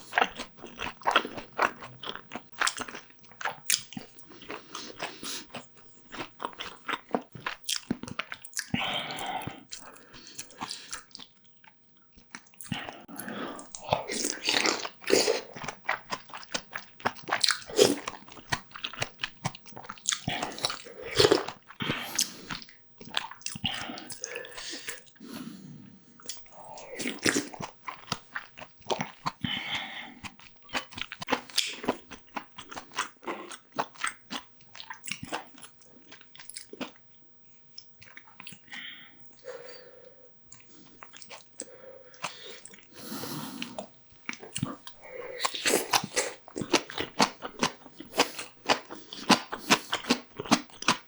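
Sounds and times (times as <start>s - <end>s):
crunchy food chewing: 0.0s - 25.4s, 26.2s - 37.1s, 37.8s - 39.9s, 40.5s - 51.0s.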